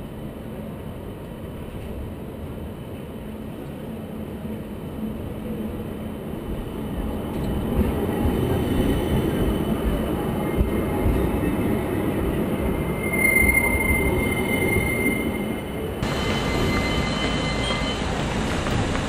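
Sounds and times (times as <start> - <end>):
tram rumbling past: 0.0 - 19.0.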